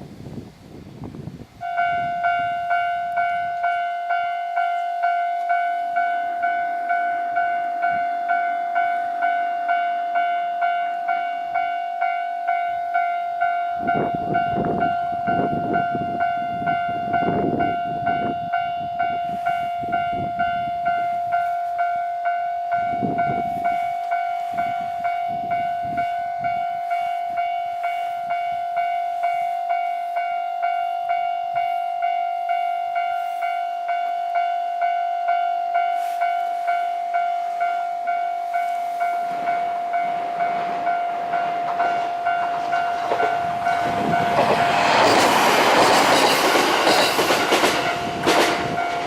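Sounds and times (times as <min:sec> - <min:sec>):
level crossing warning bell: 0:01.6 - 0:49.0.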